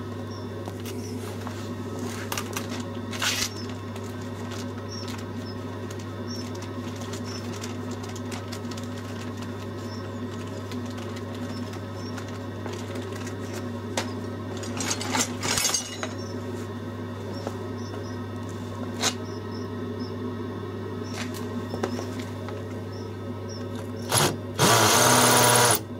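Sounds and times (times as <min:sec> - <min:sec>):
boiler flue fan humming: 0:00.0 - 0:25.9.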